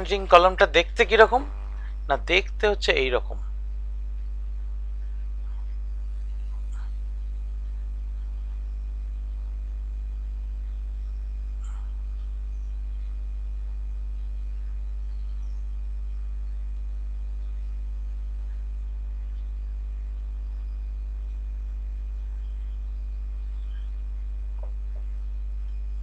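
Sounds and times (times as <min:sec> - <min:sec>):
electrical mains hum: 0:00.0 - 0:26.0
faint thin whine: 0:00.0 - 0:26.0.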